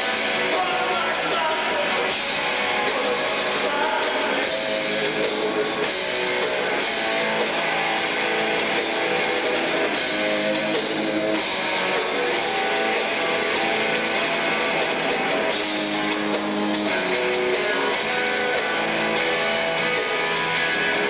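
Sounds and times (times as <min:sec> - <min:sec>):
bass guitar: 0:00.0 - 0:21.0
drum kit: 0:00.0 - 0:21.0
electric guitar: 0:00.0 - 0:21.0.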